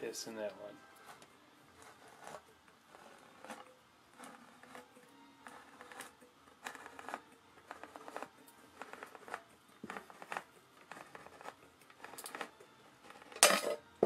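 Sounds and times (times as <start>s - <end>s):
can opener clicking and scraping: 1.1s - 13.9s.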